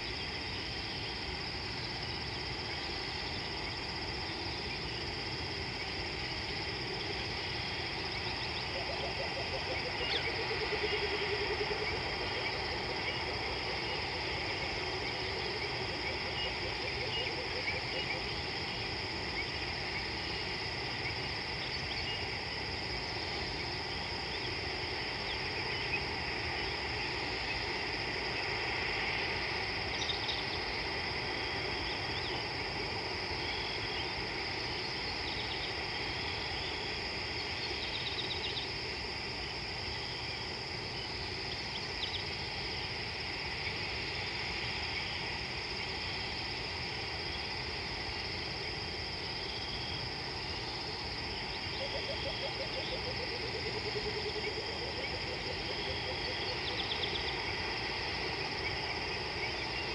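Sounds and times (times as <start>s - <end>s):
crickets trilling: 0.0s - 59.9s
insect chirps: 0.0s - 59.9s.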